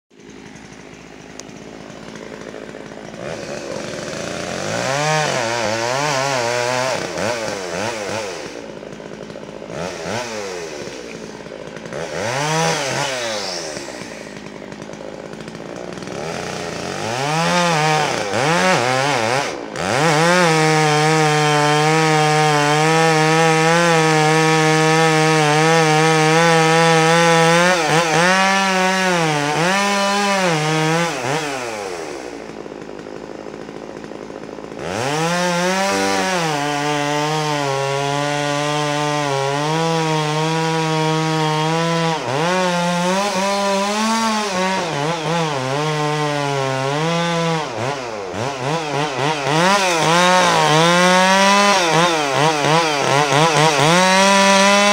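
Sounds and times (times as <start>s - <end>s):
chainsaw revving and cutting: 0.1s - 54.9s.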